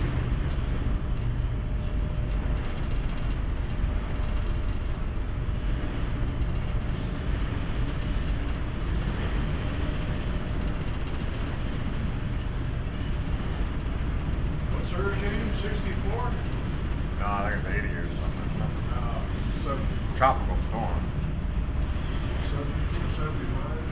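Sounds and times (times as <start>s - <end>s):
deep ship rumble: 0.0s - 23.9s.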